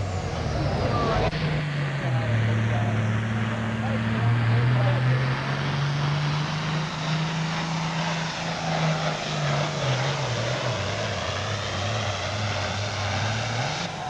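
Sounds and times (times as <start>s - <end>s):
diesel tractor engine under load: 0.0s - 14.0s.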